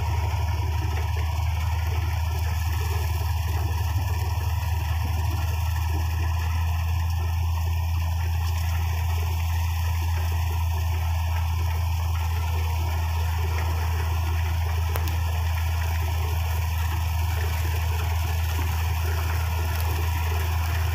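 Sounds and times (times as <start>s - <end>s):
combine harvester engine drone: 0.0s - 20.9s
threshing machinery rattle: 0.0s - 20.9s.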